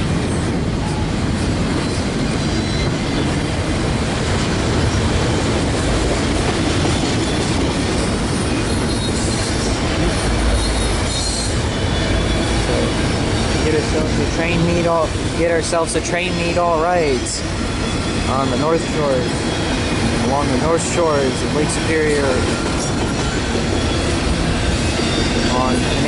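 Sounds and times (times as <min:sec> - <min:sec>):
clickety-clack over rail joints: 0:00.0 - 0:26.0
train wheels rumbling on rails: 0:00.0 - 0:26.0.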